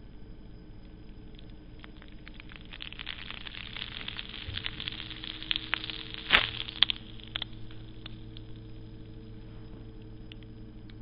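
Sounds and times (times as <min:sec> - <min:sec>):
circuit strip crackling and popping: 0:00.0 - 0:11.0
faint hum: 0:00.0 - 0:11.0.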